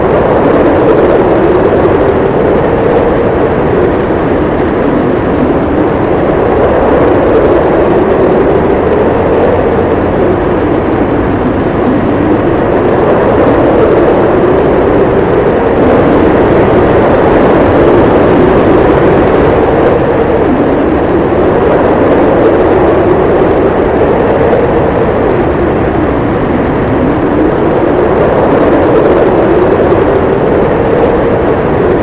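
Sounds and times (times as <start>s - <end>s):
strong wind howling: 0.0s - 32.0s.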